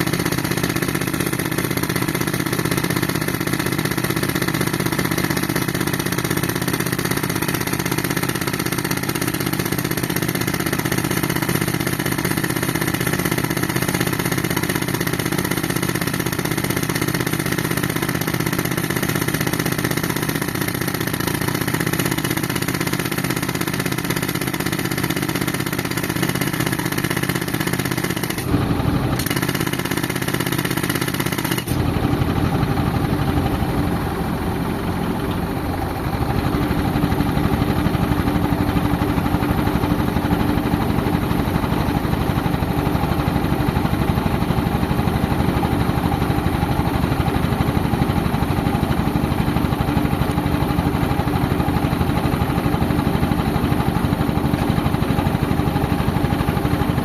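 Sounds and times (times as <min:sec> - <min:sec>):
air compressor: 0:00.0 - 0:57.0
tractor engine running: 0:00.0 - 0:57.0.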